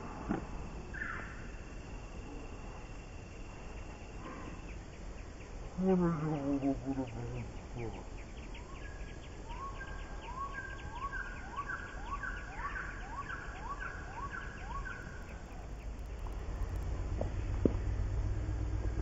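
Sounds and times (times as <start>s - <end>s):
low outdoor rumble: 0.0s - 12.5s, 15.0s - 19.0s.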